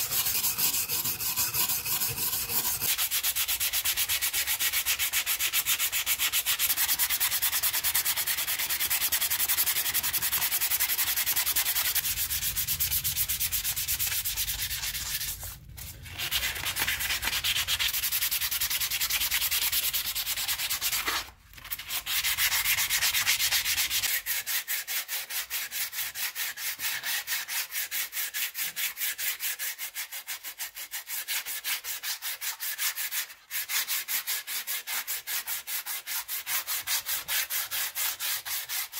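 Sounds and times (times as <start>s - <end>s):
sandpaper scratching on metal: 0.0s - 38.9s.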